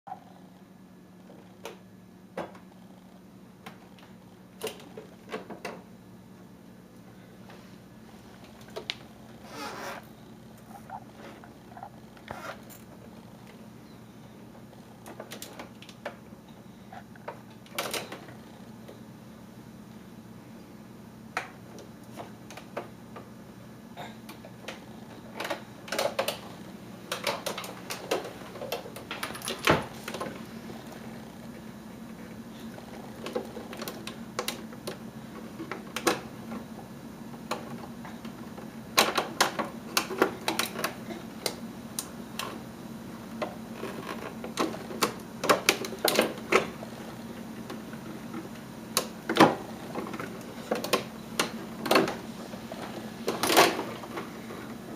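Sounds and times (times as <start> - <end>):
steady low hum: 0.1 - 54.9.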